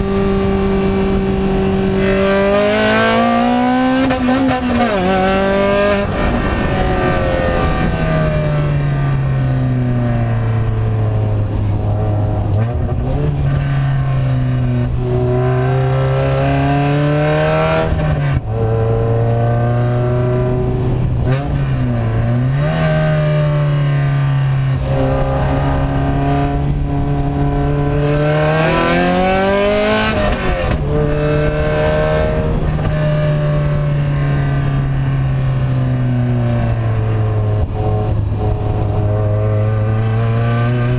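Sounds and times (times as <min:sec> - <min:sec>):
loud vehicle engine revving: 0:00.0 - 0:40.9.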